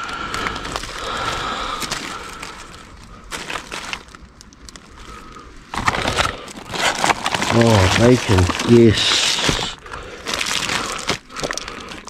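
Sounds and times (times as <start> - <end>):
plastic bags rustling and crinkling: 0.0 - 12.0
scattered crackles: 0.0 - 12.0.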